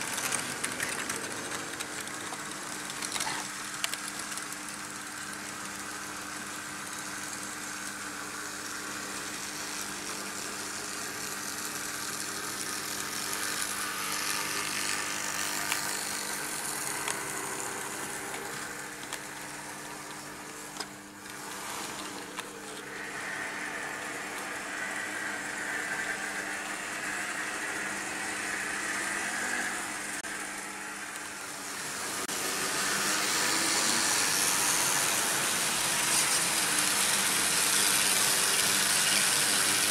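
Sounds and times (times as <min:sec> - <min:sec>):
model train electric hum: 0:00.0 - 0:39.9.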